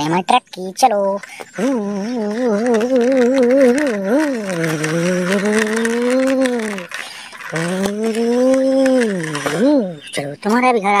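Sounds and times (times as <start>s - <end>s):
person imitating truck engine: 1.1s - 11.0s.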